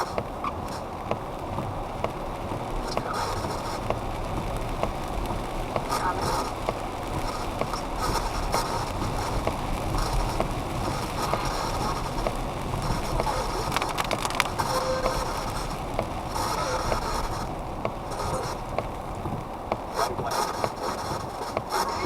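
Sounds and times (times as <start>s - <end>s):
radio scanner clicks and crackles: 0.0s - 22.0s
road and rain noise in car: 0.0s - 22.0s.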